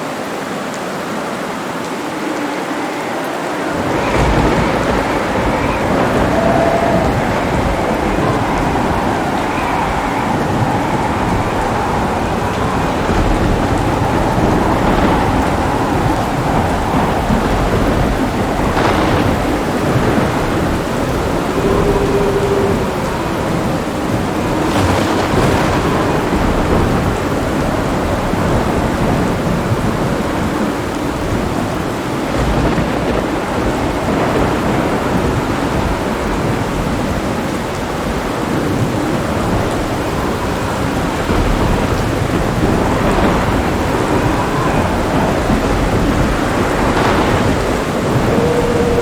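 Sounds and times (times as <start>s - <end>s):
heavy rain: 0.0s - 49.0s
low rolling thunder: 2.0s - 49.0s.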